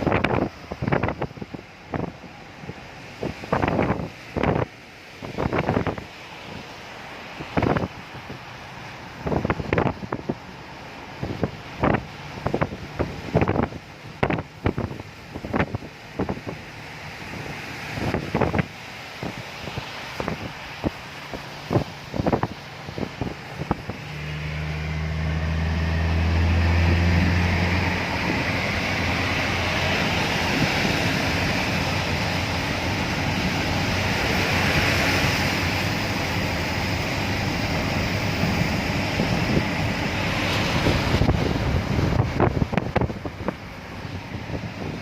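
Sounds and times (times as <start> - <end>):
vehicle on wet road: 0.0 - 45.0.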